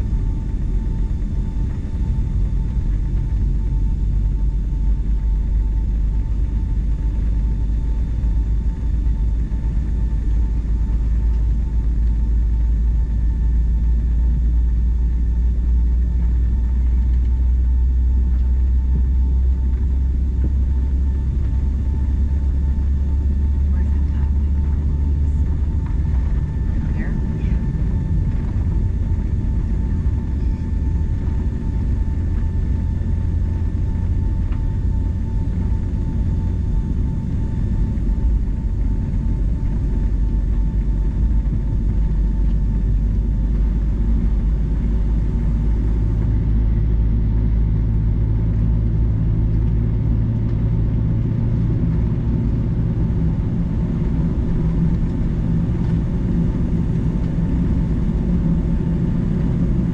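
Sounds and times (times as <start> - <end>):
faint steady whine: 0.0 - 59.9
low rumble of jet engines: 0.0 - 59.9.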